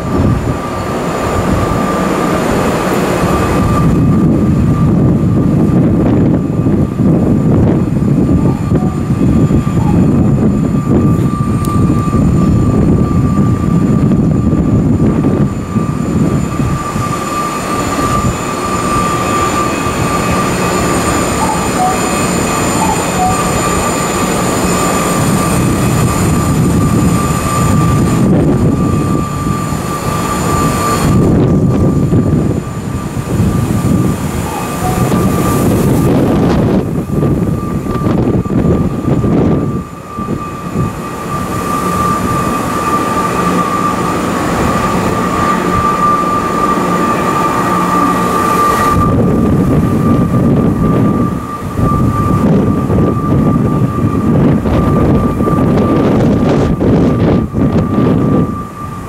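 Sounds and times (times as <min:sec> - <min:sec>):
low rumbling noise: 0:00.0 - 0:59.0
train equipment high whine: 0:00.0 - 0:59.0.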